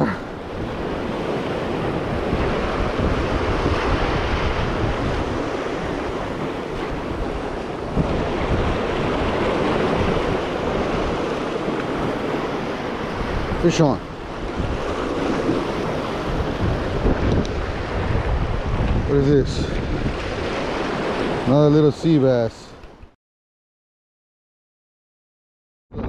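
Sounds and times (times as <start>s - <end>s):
wind buffeting microphone: 0.0s - 21.5s
waves breaking against rocks: 0.0s - 22.9s.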